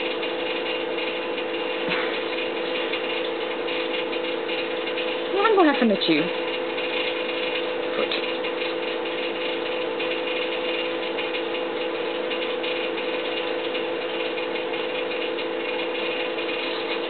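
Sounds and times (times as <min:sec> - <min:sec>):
fast fine ticking: 0:00.0 - 0:17.0
mechanical whirring hum: 0:00.0 - 0:17.0.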